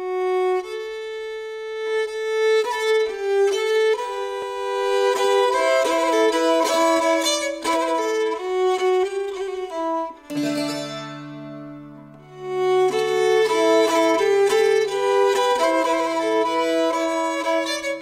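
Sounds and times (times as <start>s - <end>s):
bowed fiddle melody: 0.0s - 18.0s.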